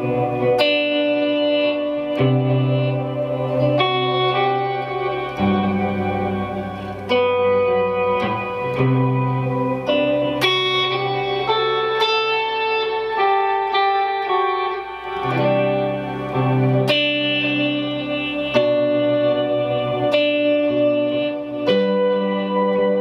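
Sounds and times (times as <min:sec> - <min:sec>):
clean electric guitar with delay: 0:00.0 - 0:23.0.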